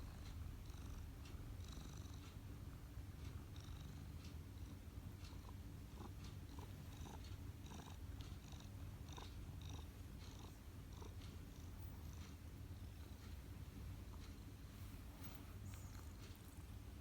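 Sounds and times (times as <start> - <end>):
cat purring: 0.0 - 2.4, 3.2 - 17.0.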